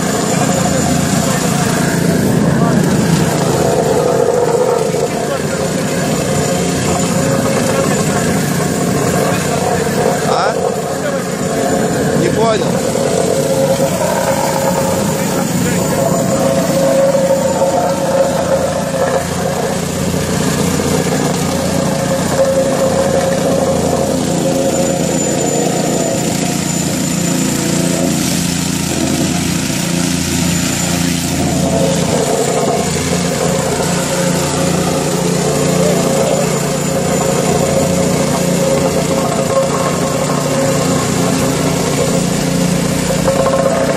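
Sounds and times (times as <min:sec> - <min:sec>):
plate compactor running: 0:00.0 - 0:43.9.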